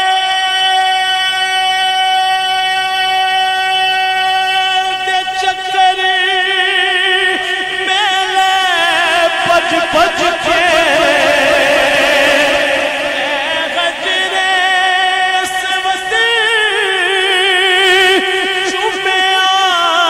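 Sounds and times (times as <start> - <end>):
man singing: 0.0 - 20.0.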